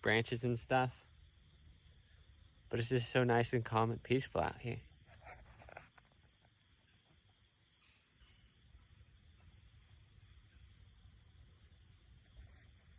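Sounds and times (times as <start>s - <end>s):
high-pitched insect chorus: 0.0s - 12.9s.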